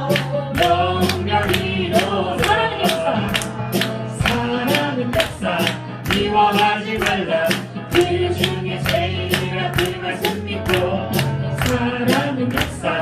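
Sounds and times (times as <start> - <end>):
gospel worship band music: 0.0 - 13.0.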